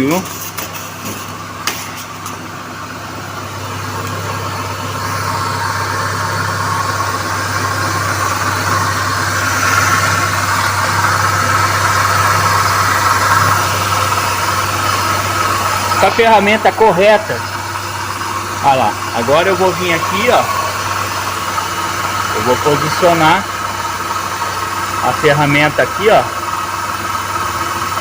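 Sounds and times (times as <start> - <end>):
car engine idling: 0.0 - 28.0
rough belt drive whirring: 0.0 - 28.0.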